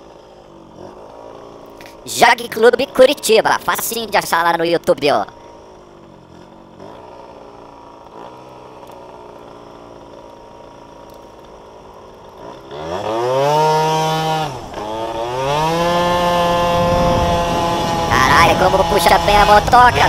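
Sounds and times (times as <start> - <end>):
scooter idling: 0.0 - 13.1, 14.5 - 20.0
scooter engine revving: 0.0 - 20.0.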